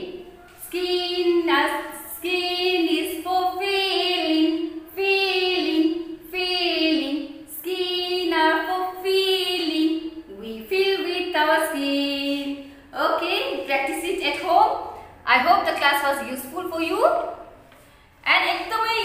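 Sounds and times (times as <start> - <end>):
woman singing unaccompanied: 0.0 - 17.2.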